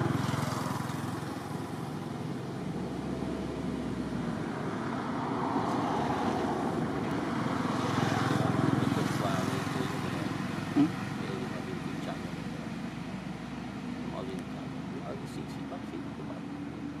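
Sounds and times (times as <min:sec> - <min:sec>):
vehicle engines passing by: 0:00.0 - 0:17.0.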